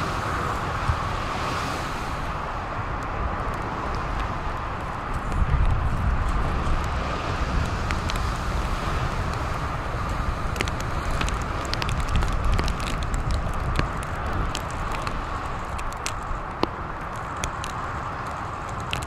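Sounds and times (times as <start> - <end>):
lake surf breaking: 0.0 - 18.0
wind rumbling on microphone: 0.0 - 19.0.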